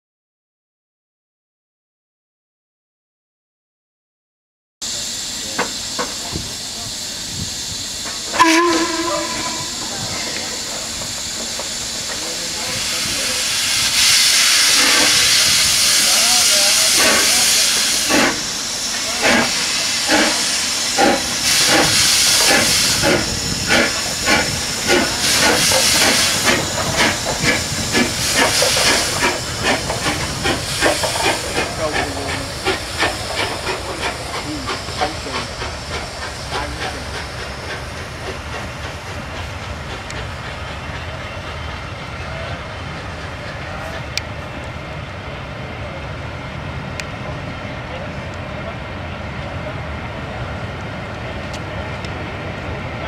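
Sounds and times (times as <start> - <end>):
steam hissing: 4.8 - 53.0
steam locomotive exhaust chuffs: 4.8 - 53.0.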